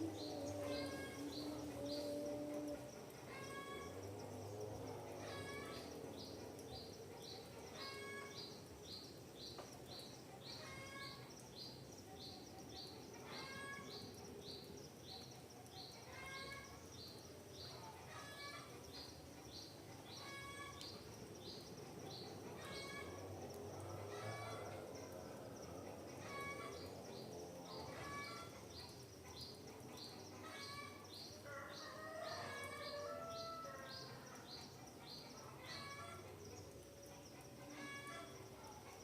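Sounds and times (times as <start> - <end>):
faint background noise: 0.0 - 39.0.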